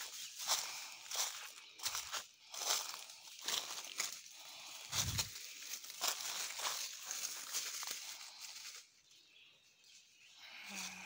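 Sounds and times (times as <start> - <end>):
footsteps crunching dry leaves: 0.0 - 9.2.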